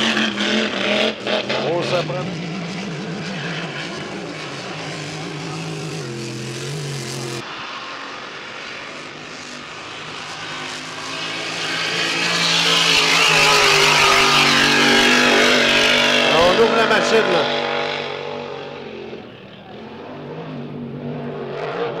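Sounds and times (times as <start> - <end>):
racing boat engine: 0.0 - 22.0.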